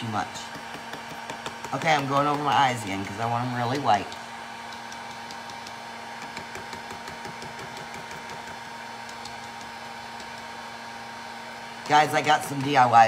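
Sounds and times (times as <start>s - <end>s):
brush tapping on board: 0.0s - 10.5s.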